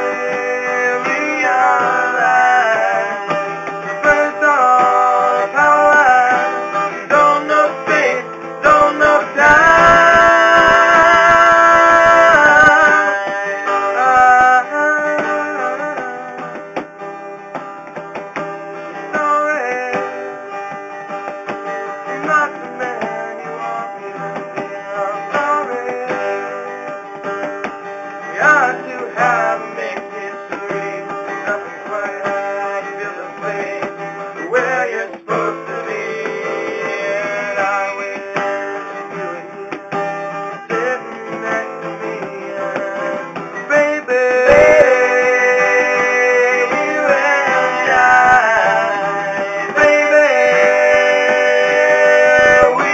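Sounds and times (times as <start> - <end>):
guitar playing: 0.0 - 52.9.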